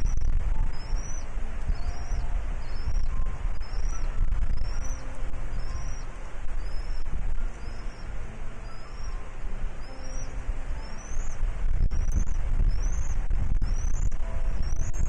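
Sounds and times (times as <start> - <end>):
bird chirping: 0.0 - 15.0
low rumble: 0.0 - 15.0.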